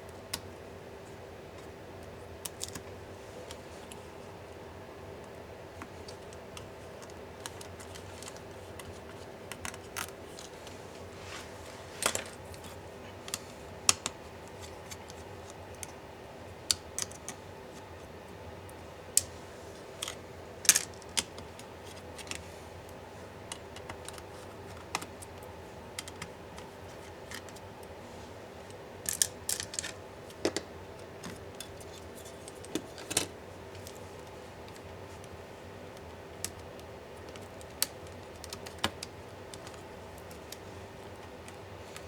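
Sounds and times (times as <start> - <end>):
faint background hum: 0.0 - 42.0.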